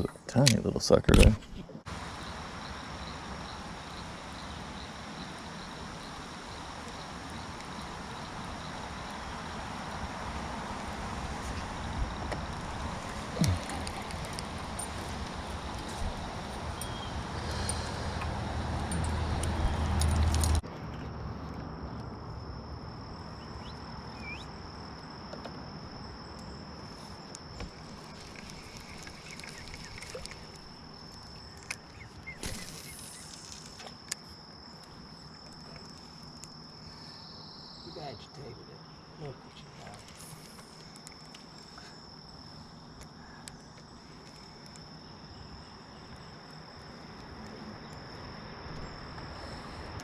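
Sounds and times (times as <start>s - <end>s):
outdoor background noise: 0.0s - 50.0s
high-pitched insect drone: 1.9s - 20.6s, 22.4s - 50.0s.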